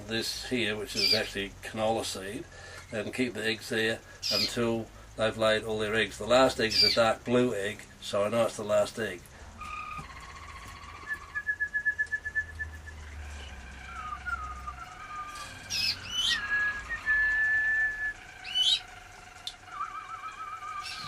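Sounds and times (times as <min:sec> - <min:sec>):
canaries singing: 0:00.0 - 0:21.0.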